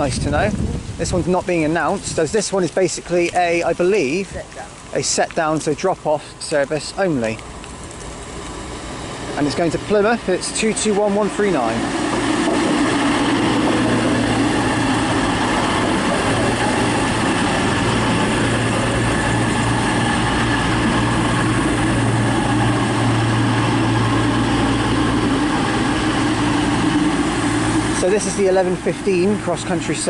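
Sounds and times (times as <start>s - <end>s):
diesel train engines idling: 0.0s - 30.0s.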